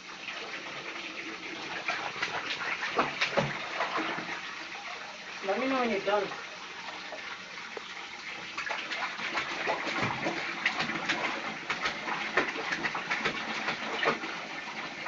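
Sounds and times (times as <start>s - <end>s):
bathwater splashing: 0.0s - 15.0s.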